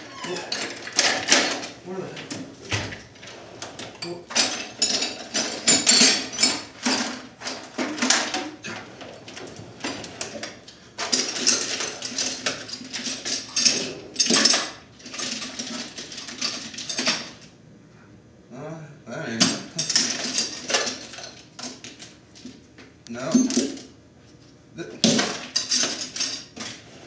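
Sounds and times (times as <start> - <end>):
metal tools clattering in toolbox: 0.0 - 1.8, 3.2 - 17.4, 19.4 - 22.6, 23.2 - 23.9, 25.0 - 27.0.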